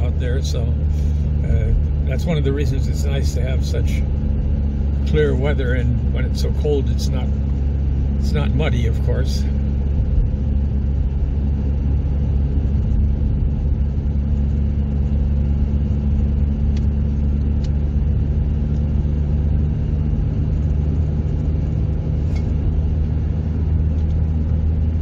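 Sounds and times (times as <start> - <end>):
engine and road noise drone: 0.0 - 25.0.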